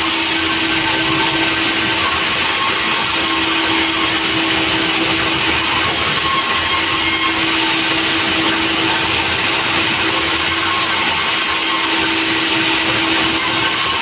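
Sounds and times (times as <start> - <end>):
sawmill machinery running: 0.0 - 14.0
steady hum: 0.0 - 14.0.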